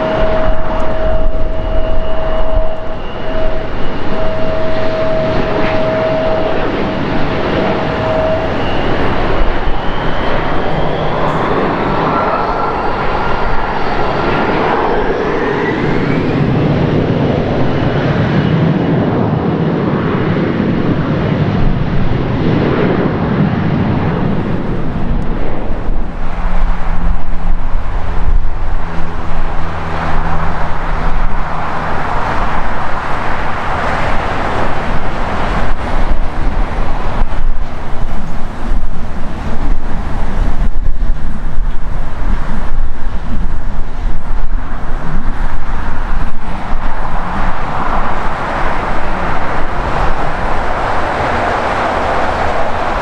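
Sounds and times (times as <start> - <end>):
vehicle engine humming: 0.0 - 18.1, 23.6 - 53.0
jet engines roaring: 0.0 - 53.0
rumble of traffic: 0.0 - 53.0
wind gusts on microphone: 0.0 - 53.0.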